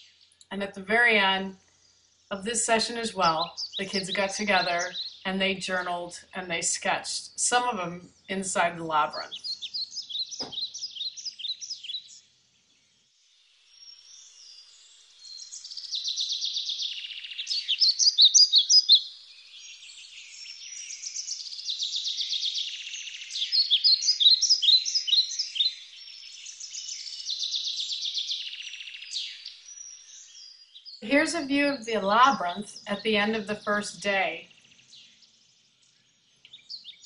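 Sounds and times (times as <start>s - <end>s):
birds chirping and trilling: 0.0s - 37.0s.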